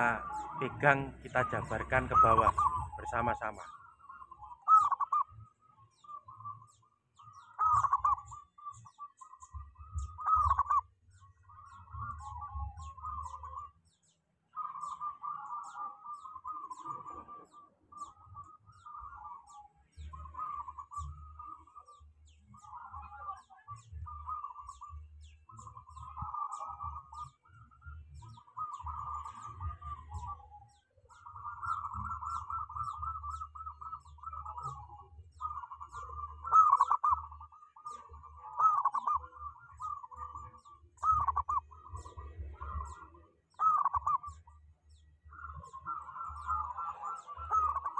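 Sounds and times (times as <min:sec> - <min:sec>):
dove cooing: 0:00.0 - 0:13.9, 0:14.5 - 0:47.9.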